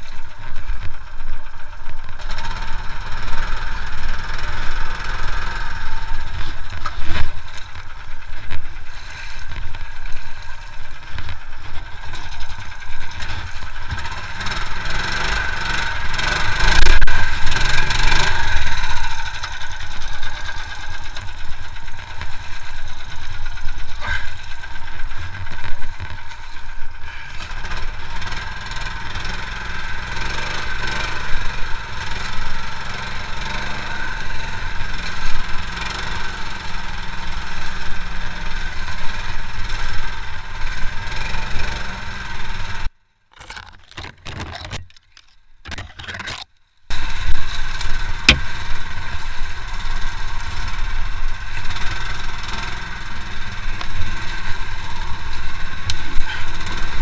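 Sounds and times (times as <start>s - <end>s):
sled engine running: 0.0s - 57.0s.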